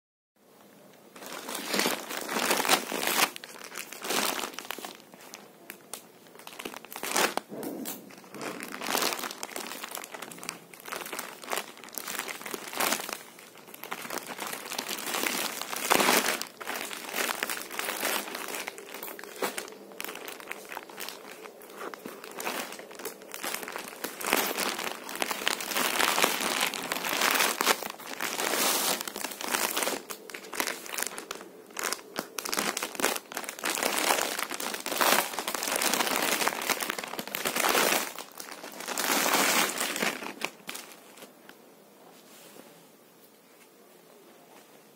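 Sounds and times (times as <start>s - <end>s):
plastic packaging crinkling: 1.2s - 41.3s.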